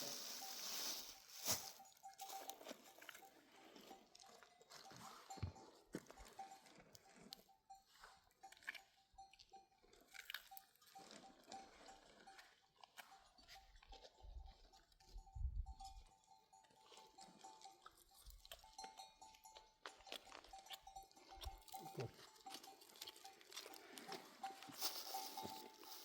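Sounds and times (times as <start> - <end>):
animal bells ringing: 0.0 - 26.0.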